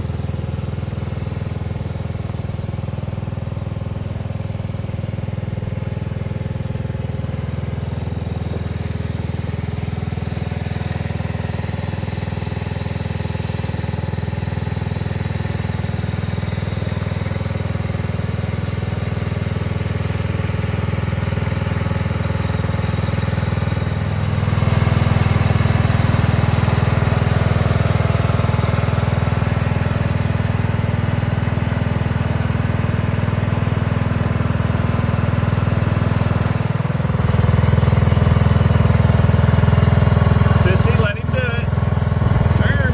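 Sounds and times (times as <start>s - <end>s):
riding mower engine running: 0.0s - 42.9s.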